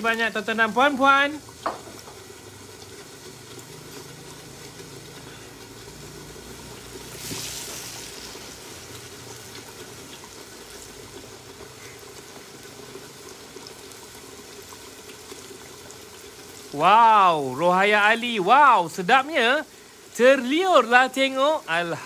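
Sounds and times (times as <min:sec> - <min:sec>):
sauce simmering with bubbling hiss: 0:00.0 - 0:22.0.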